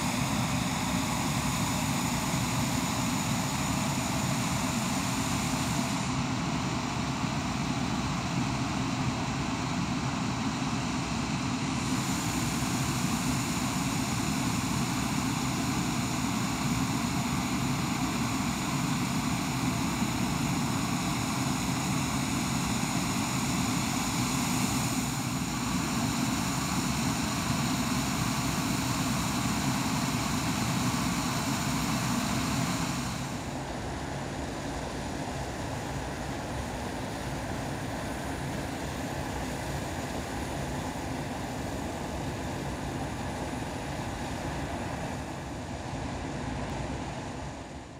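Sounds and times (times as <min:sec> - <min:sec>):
aircraft engine drone: 0:00.0 - 0:47.9.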